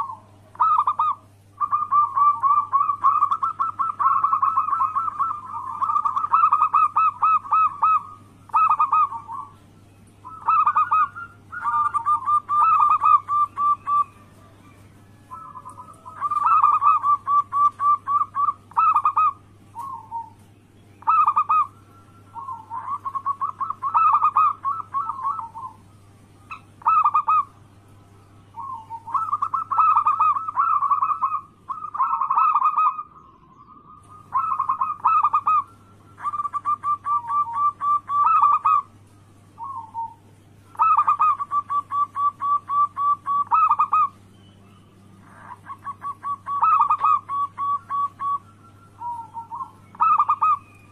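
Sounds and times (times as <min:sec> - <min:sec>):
dove cooing: 0:00.0 - 0:27.7, 0:28.5 - 0:44.3, 0:45.0 - 0:50.9
low steady hum: 0:00.0 - 0:50.9.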